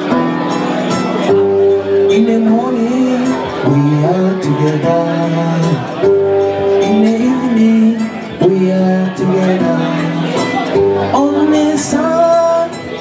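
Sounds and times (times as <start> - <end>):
man singing long notes: 1.8 - 13.0.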